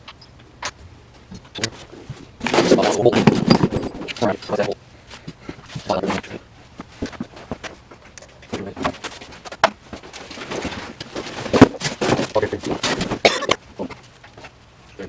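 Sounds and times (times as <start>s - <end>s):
tools and parts clattering: 0.1s - 14.6s.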